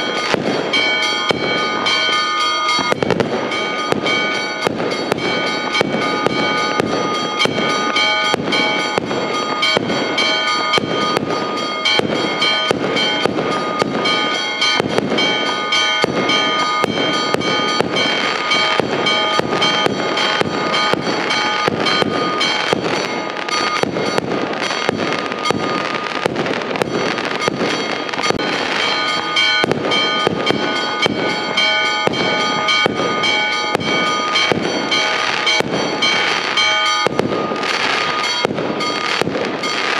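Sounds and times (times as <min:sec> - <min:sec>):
fireworks bangs and crackling: 0:00.0 - 0:39.9
steady ringing tones: 0:00.0 - 0:39.9.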